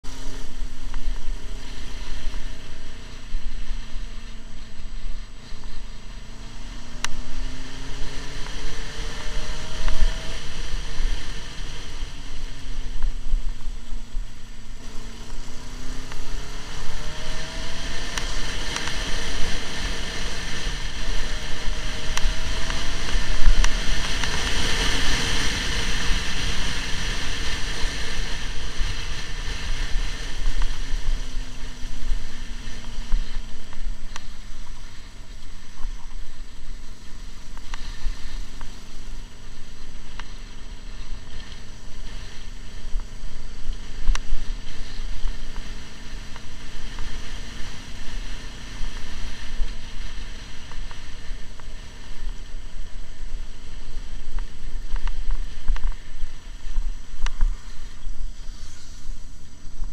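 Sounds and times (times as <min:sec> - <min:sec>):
motorcycle engine revving: 0:00.0 - 0:59.9
wind rumble on microphone: 0:00.0 - 0:59.9.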